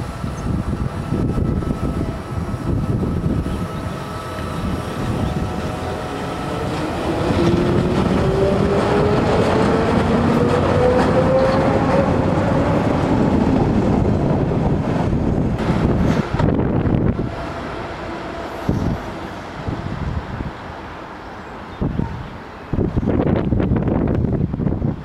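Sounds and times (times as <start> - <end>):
train whine rising in pitch: 0.0 - 21.3
train wheels rumbling on track: 0.0 - 25.0.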